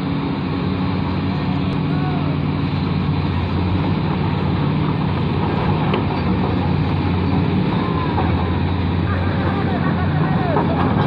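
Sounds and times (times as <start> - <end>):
excavator diesel engines droning: 0.0 - 11.0.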